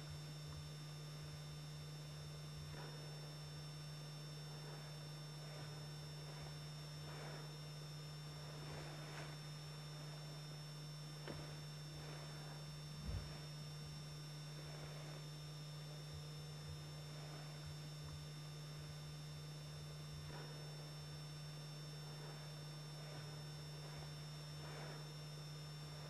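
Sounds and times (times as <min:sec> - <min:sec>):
low hum with hiss: 0:00.0 - 0:26.0
soft rustling: 0:02.6 - 0:26.0.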